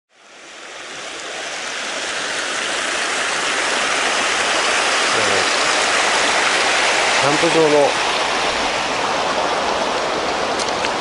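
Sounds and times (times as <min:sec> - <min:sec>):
river rushing over rocks: 0:00.1 - 0:11.0.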